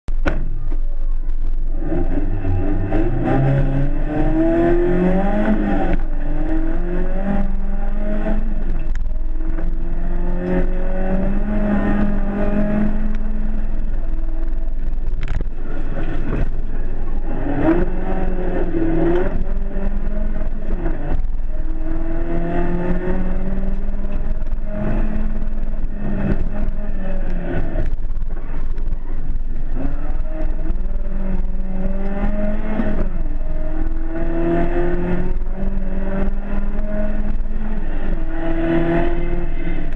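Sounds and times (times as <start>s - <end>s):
car engine revving hard: 1.7s - 39.9s.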